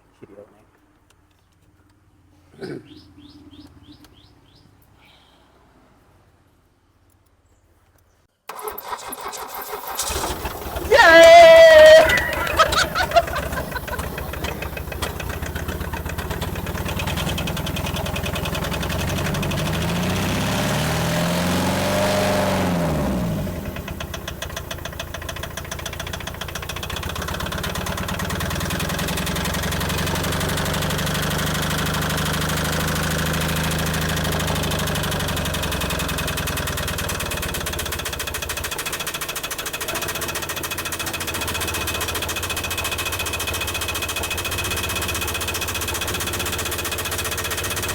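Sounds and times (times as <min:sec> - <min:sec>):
diesel engine revving: 0:08.5 - 0:47.9.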